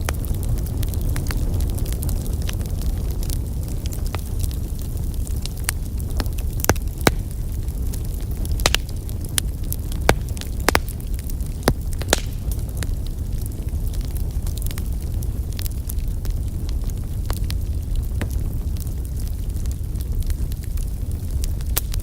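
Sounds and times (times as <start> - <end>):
fire crackles and pops: 0.0 - 22.0
low rumble of flames: 0.0 - 22.0.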